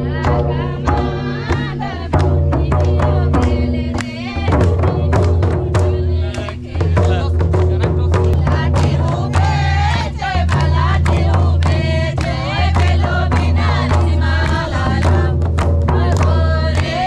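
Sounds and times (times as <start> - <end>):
barrel drums: 0.0 - 17.0
group singing in chorus: 0.0 - 17.0
hand claps: 1.5 - 17.0.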